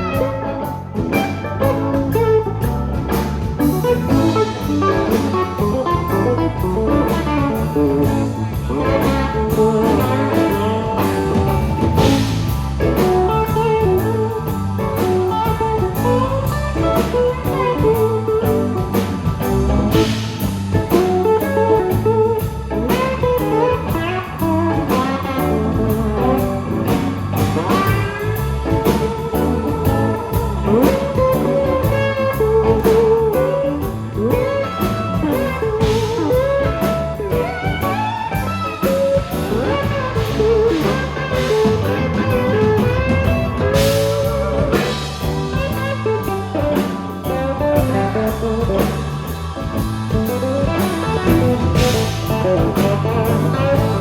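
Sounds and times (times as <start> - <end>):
bass and drums: 0.0 - 54.0
lead guitar bending notes: 0.0 - 54.0.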